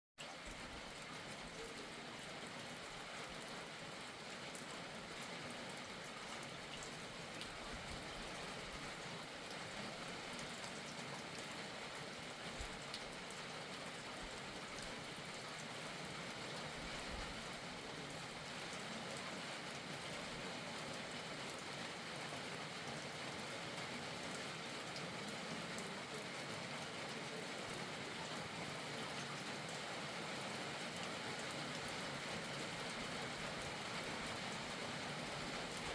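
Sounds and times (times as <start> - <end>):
steady rain hiss: 0.2 - 35.9.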